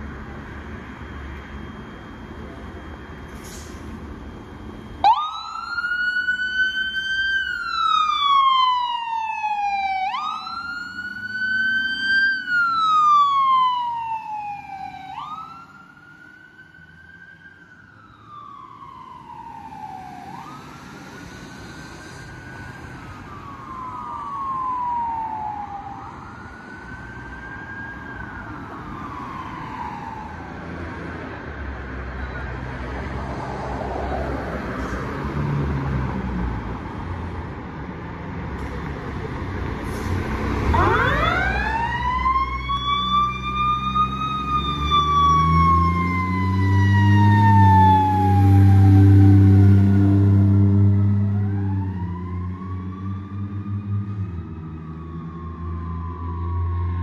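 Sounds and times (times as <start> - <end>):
ambulance siren wailing: 3.9 - 31.4, 32.0 - 36.9, 40.4 - 57.0.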